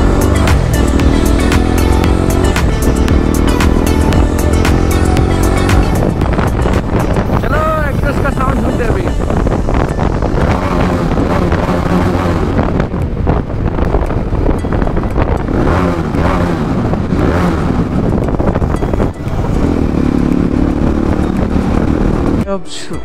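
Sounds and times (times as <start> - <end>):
motorcycle engine revving in tunnel: 0.0 - 7.4, 9.1 - 22.4.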